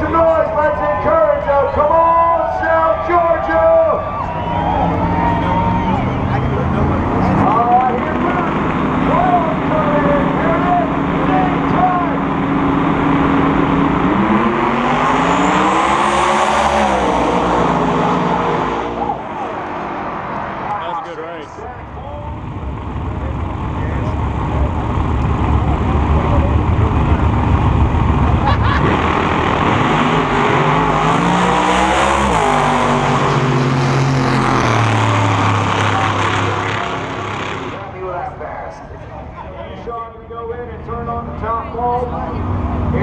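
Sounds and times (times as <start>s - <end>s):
race car engines accelerating: 0.0s - 43.0s.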